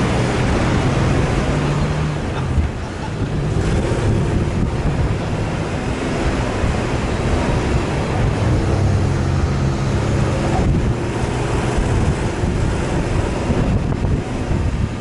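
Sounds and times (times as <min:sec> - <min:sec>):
road and wind noise: 0:00.0 - 0:15.0
vehicle engine humming: 0:00.0 - 0:15.0.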